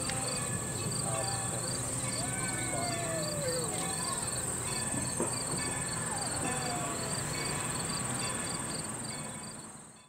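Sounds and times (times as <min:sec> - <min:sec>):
insect drone: 0:00.0 - 0:10.0.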